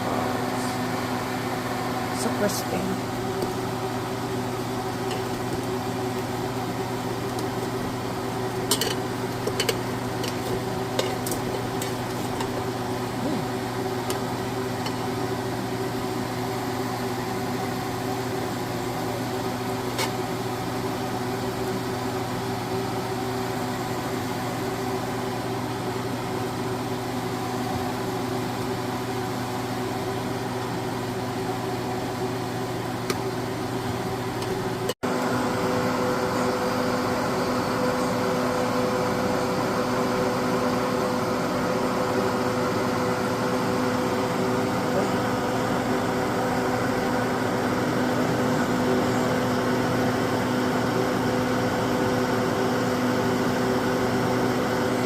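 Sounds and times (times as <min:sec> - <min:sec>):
air fryer fan hum: 0:00.0 - 0:55.0.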